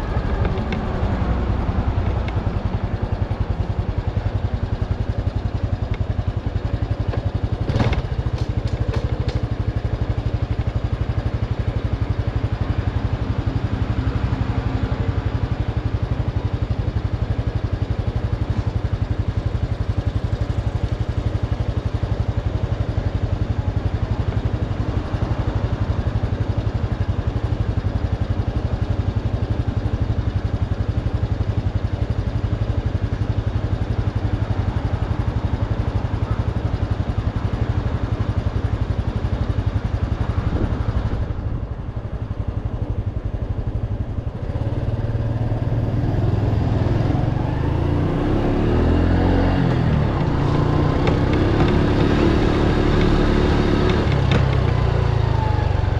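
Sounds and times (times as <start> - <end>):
motorcycle engine idling: 0.0 - 55.9.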